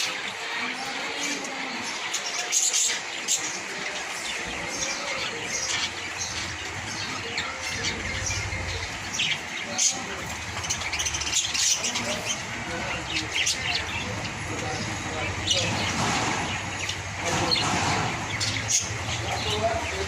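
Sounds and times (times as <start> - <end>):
budgerigars chirping and squawking: 0.0 - 20.0.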